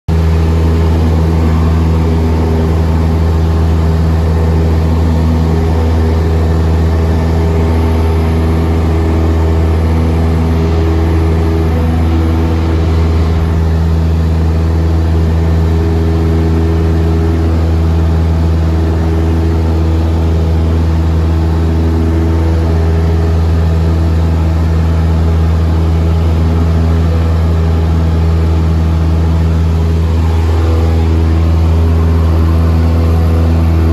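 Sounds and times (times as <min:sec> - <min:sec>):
propeller plane engine droning: 0:00.1 - 0:33.9.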